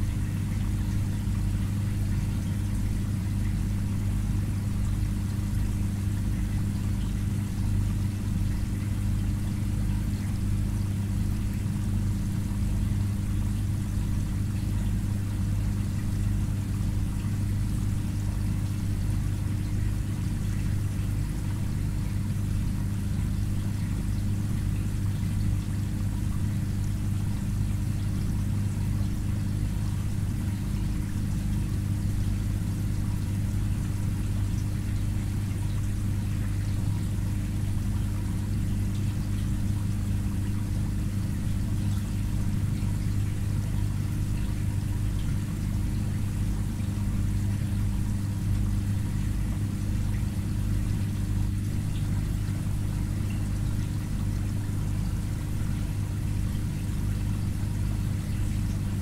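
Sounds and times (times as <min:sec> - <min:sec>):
filter pump humming: 0:00.0 - 0:59.0
water trickling and pouring: 0:00.1 - 0:59.0.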